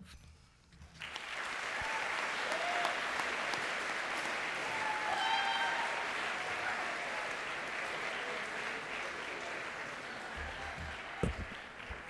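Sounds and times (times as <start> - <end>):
large audience applauding: 1.0 - 12.0.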